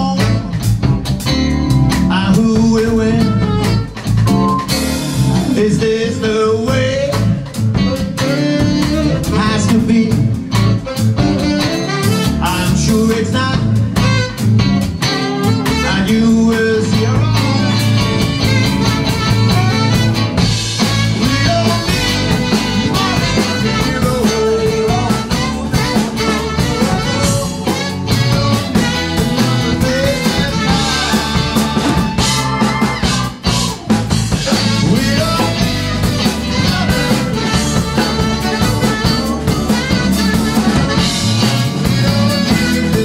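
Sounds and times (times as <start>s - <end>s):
man singing lead vocal: 0.0s - 0.7s, 2.0s - 3.9s, 5.4s - 10.8s, 12.0s - 14.1s, 15.2s - 18.6s, 20.8s - 43.0s
live blues band: 0.0s - 43.0s.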